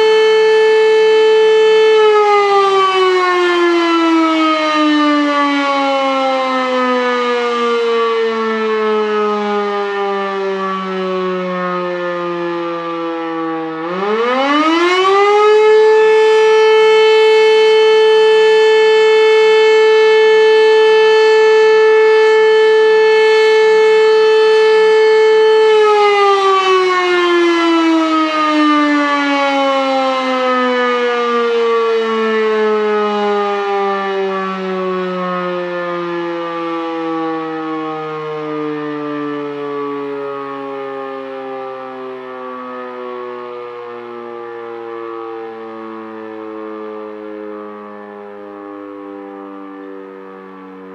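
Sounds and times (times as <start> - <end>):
electromechanical siren howling: 0.0 - 50.9.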